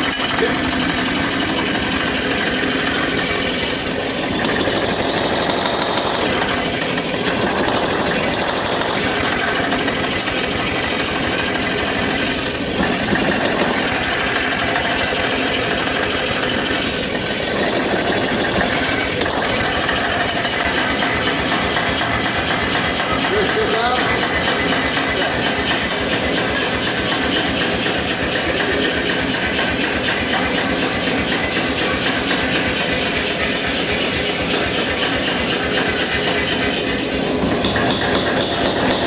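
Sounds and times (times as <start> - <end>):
power hammer striking hot steel: 0.0 - 39.0.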